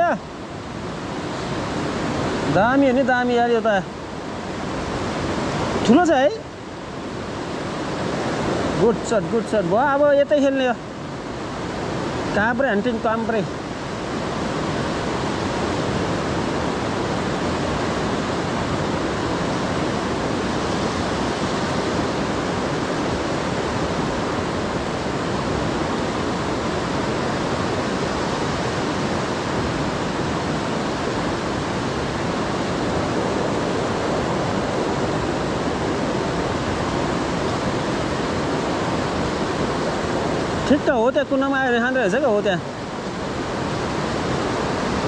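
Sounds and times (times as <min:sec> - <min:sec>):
river rushing through gorge: 0:00.0 - 0:45.0.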